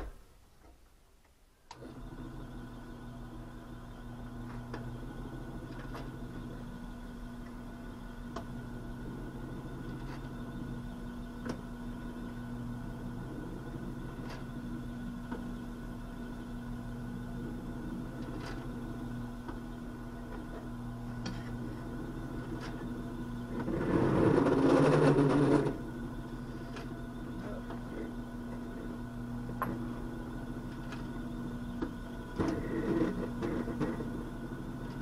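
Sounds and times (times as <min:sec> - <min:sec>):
drill press motor humming: 0:01.7 - 0:35.0.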